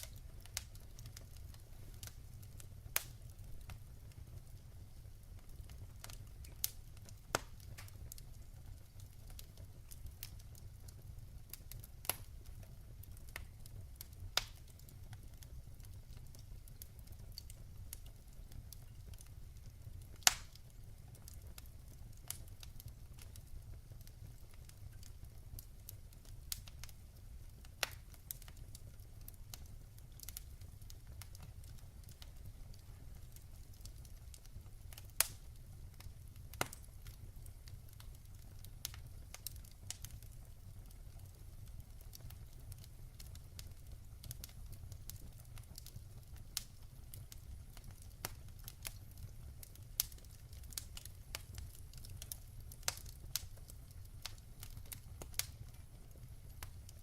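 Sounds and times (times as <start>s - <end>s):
log fire crackling: 0.0s - 57.0s
low rumble of flames: 0.0s - 57.0s.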